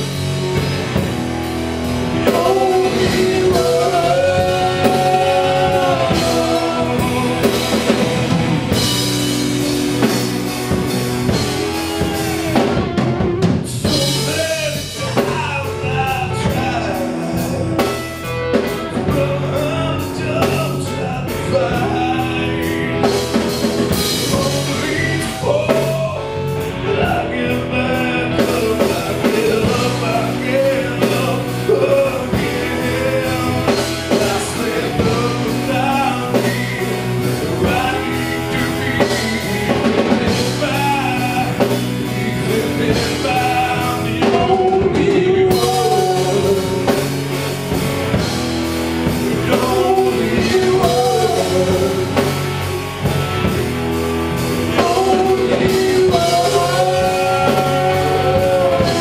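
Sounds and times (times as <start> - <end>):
drum kit: 0.0 - 59.0
electric bass: 0.0 - 59.0
electric guitars: 0.0 - 59.0
man singing lead: 0.0 - 59.0.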